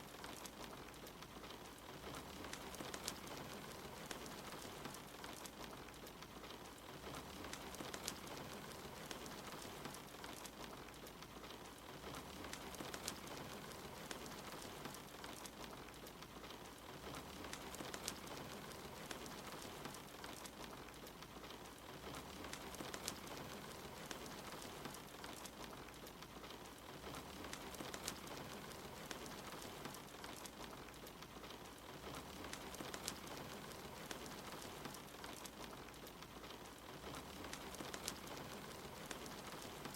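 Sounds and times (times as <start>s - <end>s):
soft rain: 0.0s - 39.9s
wood fire crackling: 0.0s - 39.9s.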